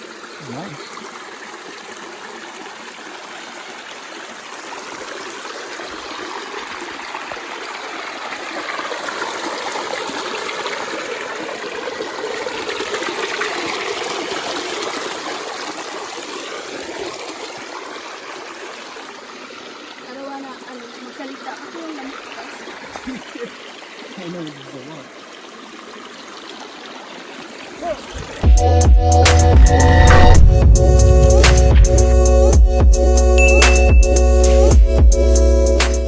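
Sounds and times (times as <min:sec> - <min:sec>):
stream rushing over rocks: 0:00.0 - 0:28.6, 0:29.2 - 0:32.5.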